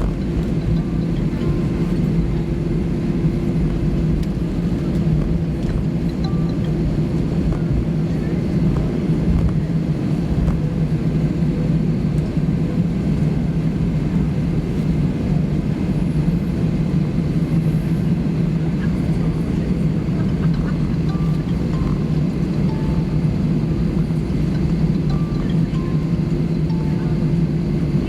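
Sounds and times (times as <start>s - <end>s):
aircraft cabin hum and rumble: 0.0s - 28.0s.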